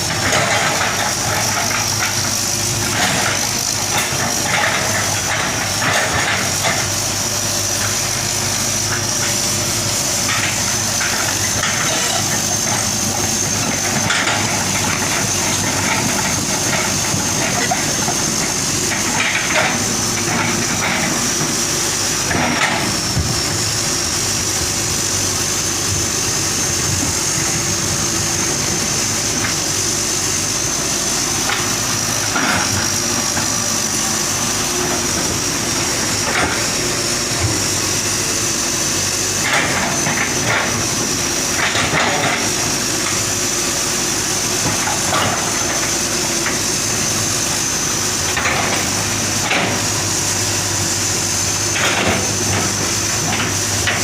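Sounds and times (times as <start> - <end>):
excavator diesel engine: 0.0 - 54.0
high-pitched hydraulic whine: 0.1 - 54.0.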